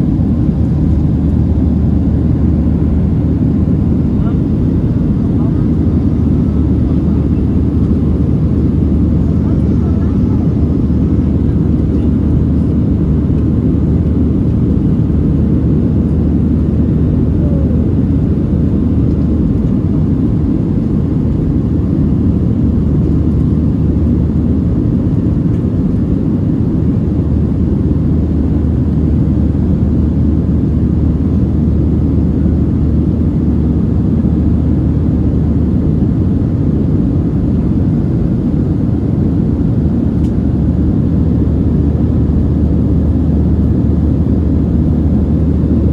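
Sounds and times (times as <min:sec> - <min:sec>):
jet cabin low rumble: 0:00.0 - 0:45.9.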